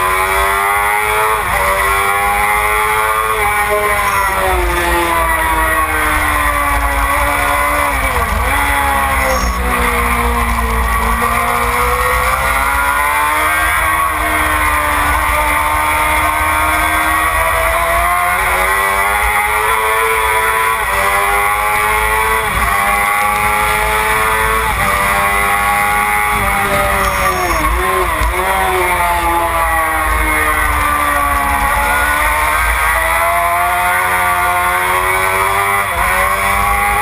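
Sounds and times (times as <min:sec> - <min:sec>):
racing motorcycle engine accelerating: 0:00.0 - 0:37.0.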